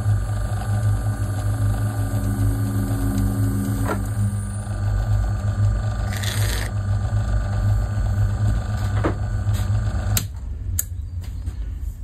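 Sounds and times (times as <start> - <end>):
metal lathe humming: 0.0 - 10.0.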